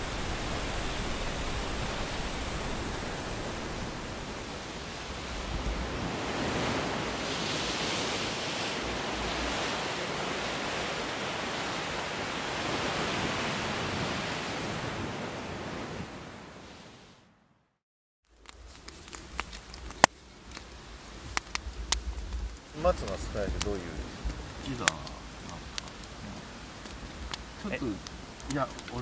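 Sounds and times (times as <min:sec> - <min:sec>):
sea surf: 0:00.0 - 0:17.3, 0:21.2 - 0:29.0
wind: 0:00.0 - 0:17.6, 0:18.3 - 0:29.0.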